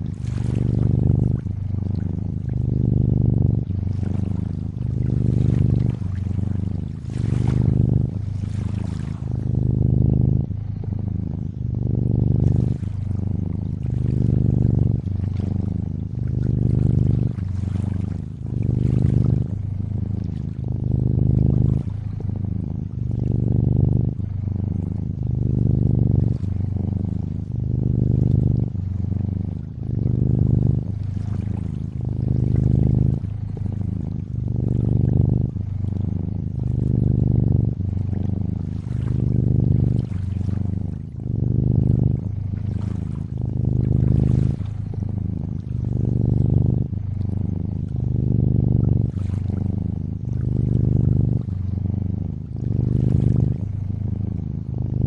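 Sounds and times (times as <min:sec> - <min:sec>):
water trickling softly: 0:00.0 - 0:10.7, 0:11.4 - 0:49.6
cat purring: 0:00.0 - 0:55.0.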